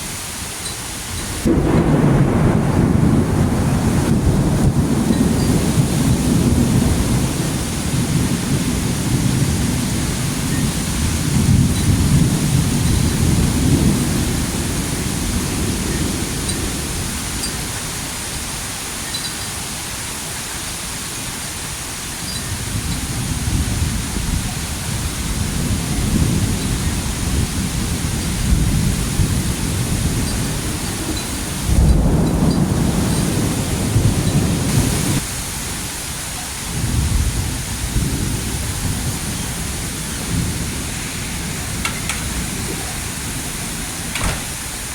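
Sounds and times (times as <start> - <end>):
heavy rain: 0.0 - 44.9
thunder rumbling: 1.1 - 18.4, 22.4 - 35.9, 36.7 - 44.9.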